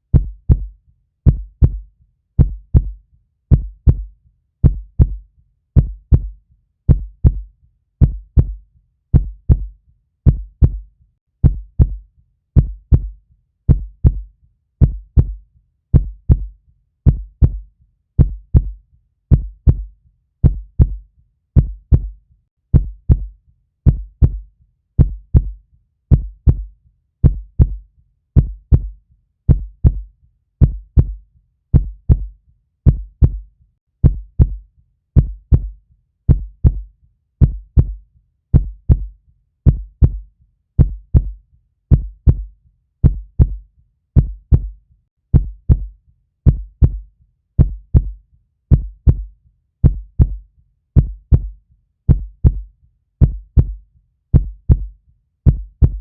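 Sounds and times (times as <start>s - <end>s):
heartbeat thumps: 0.1s - 5.2s, 5.8s - 12.0s, 12.6s - 21.0s, 21.6s - 27.8s, 28.4s - 34.6s, 35.2s - 43.6s, 44.2s - 50.4s, 51.0s - 56.0s.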